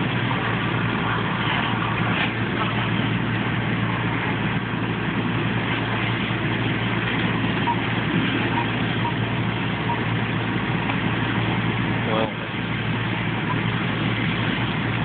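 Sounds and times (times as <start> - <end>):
fire engine running: 0.0 - 15.0.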